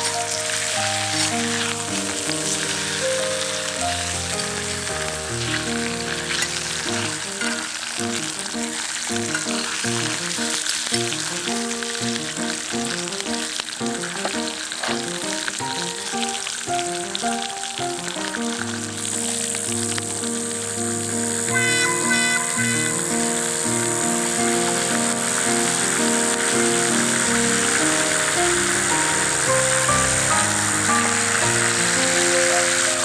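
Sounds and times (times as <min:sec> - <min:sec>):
background music with sustained notes: 0:00.0 - 0:33.0
food frying in a pan: 0:00.0 - 0:33.0.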